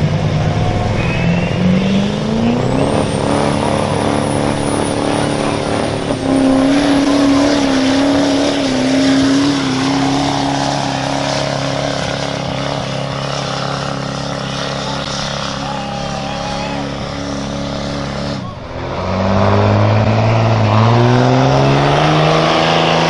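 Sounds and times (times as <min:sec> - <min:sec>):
pulling vehicle engine revving: 0:00.0 - 0:23.0.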